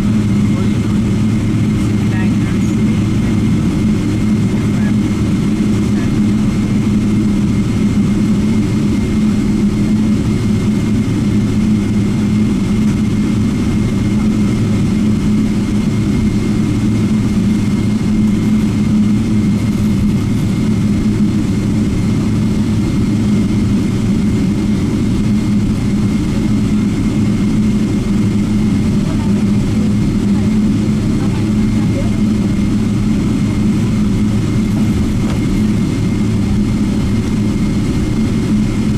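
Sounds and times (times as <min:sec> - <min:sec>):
jet engines low drone: 0:00.0 - 0:38.9.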